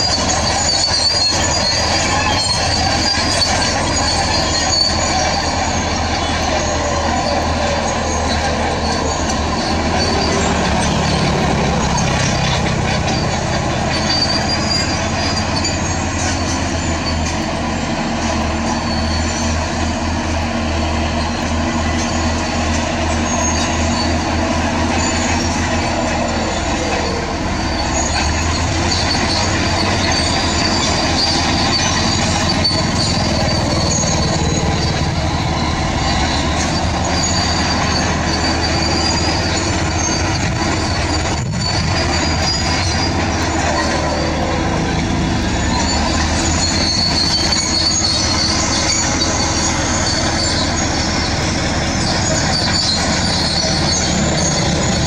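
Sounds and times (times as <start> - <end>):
dozer diesel engine running: 0.0 - 55.0
steel tracks clanking and squealing: 0.0 - 55.0.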